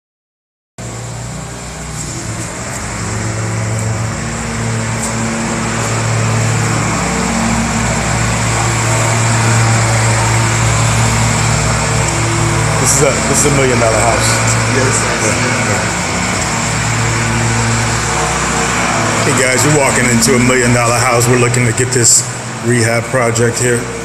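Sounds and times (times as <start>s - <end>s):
low motor hum: 0.8s - 24.0s.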